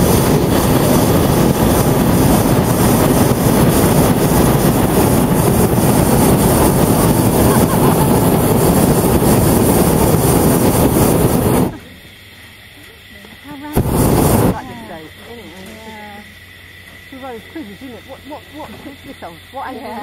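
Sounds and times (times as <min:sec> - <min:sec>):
propane burner roaring: 0:00.0 - 0:20.0.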